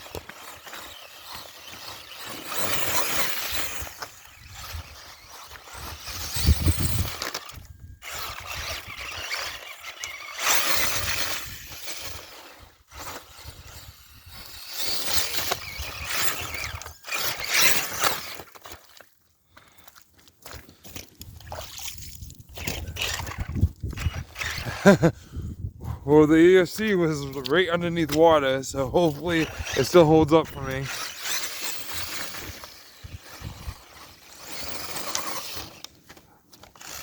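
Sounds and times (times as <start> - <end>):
rc truck motor revving: 0.0 - 19.0, 22.1 - 25.1, 26.7 - 37.0.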